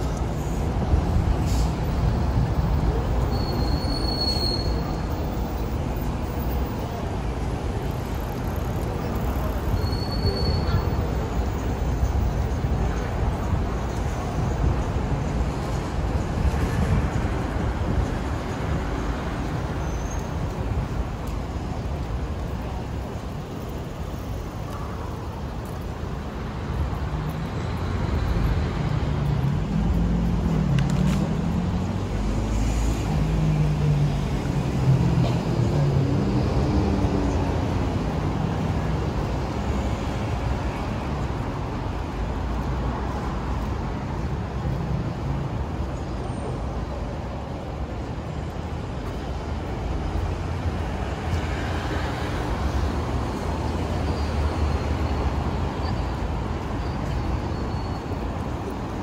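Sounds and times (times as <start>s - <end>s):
cars passing: 4.6s - 59.0s.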